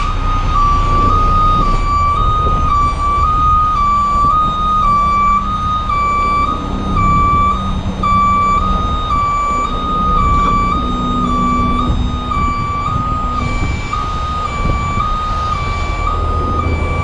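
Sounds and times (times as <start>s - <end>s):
diesel engine running: 0.0s - 17.0s
two-tone warning alarm: 0.0s - 17.0s.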